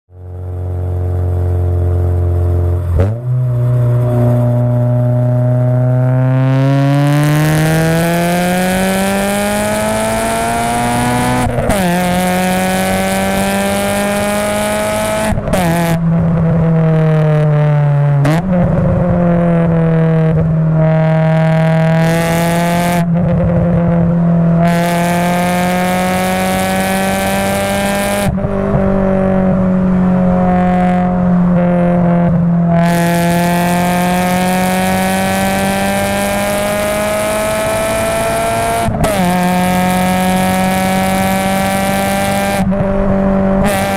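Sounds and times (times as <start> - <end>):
car engine revving: 0.1 - 43.9.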